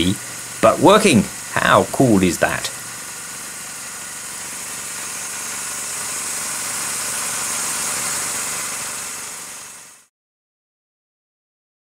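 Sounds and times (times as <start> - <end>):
sawmill engine running: 0.0 - 10.1.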